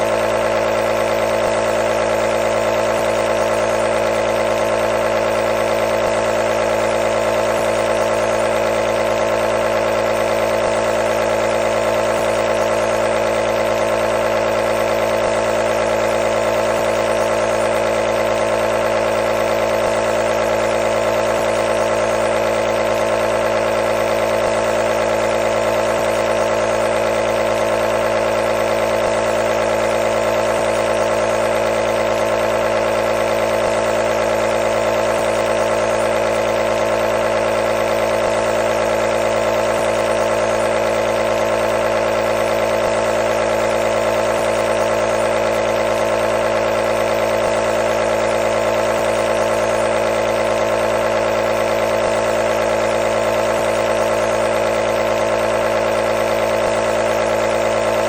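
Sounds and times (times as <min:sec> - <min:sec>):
compressor motor humming: 0:00.0 - 0:58.0.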